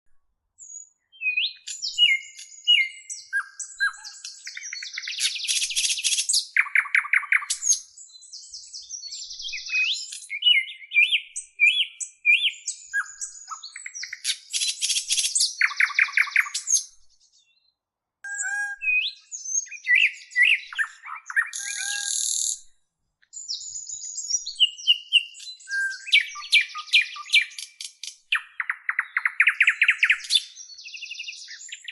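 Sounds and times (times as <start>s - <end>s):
lovebirds chirping: 0.6s - 17.7s, 23.4s - 31.9s.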